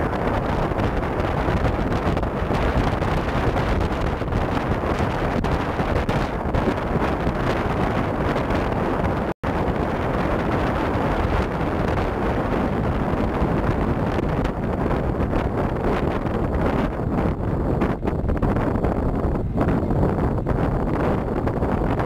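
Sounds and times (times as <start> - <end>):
vehicle driving noise: 0.0 - 22.0
wind buffeting microphone: 0.0 - 22.0.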